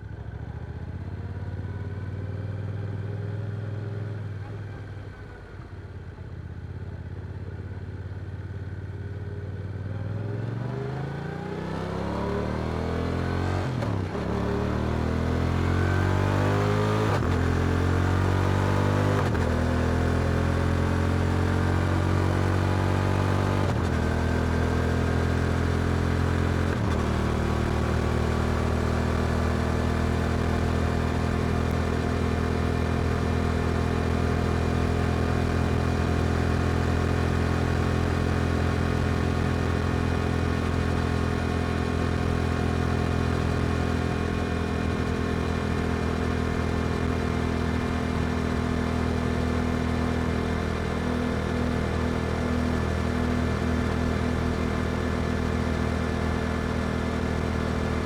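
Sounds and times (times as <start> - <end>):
motorcycle engine accelerating: 9.9 - 58.0.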